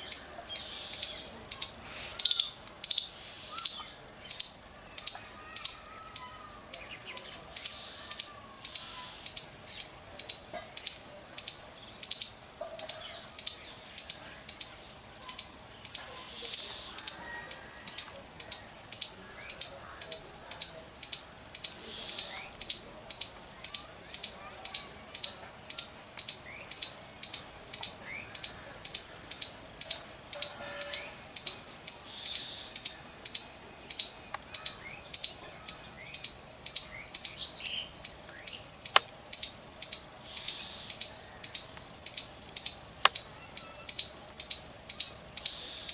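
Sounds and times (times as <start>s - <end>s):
faint bird calls: 0.0s - 45.9s
squirrel chirping call: 0.0s - 45.9s.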